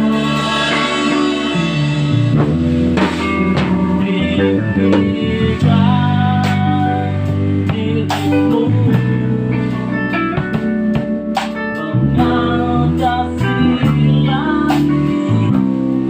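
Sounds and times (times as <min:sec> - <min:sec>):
bass guitar: 0:00.0 - 0:16.0
drum kit: 0:00.0 - 0:16.0
guitar melody with bent notes: 0:00.0 - 0:16.0
keyboard: 0:00.0 - 0:16.0.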